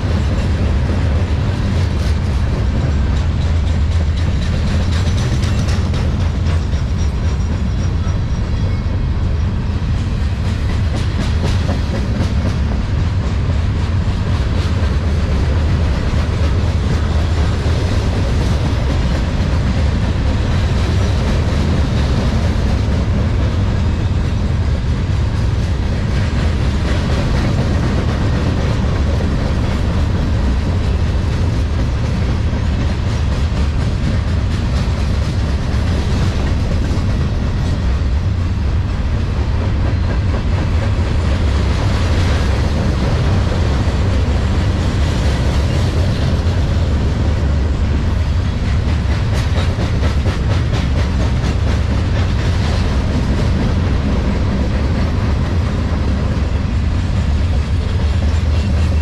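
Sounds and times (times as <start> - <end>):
train rumbling past: 0.0 - 59.0
train wheel clicks on rails: 0.0 - 59.0.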